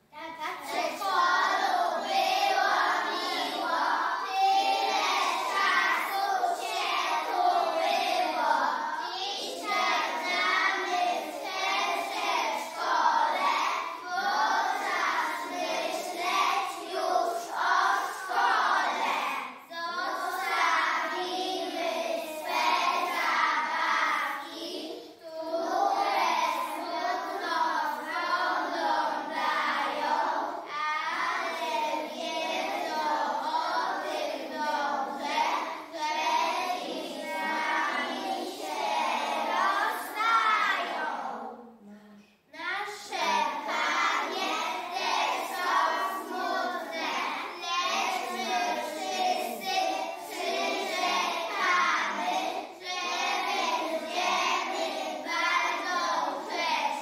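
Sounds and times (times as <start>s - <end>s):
children singing: 0.0s - 42.0s, 42.6s - 57.0s.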